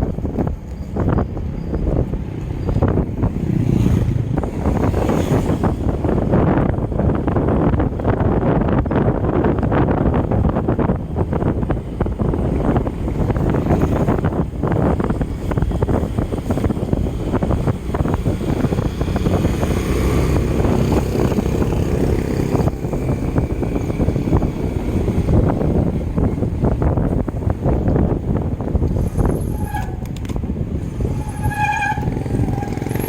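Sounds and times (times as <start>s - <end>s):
road noise: 0.0s - 33.0s
wind buffeting microphone: 0.0s - 33.0s.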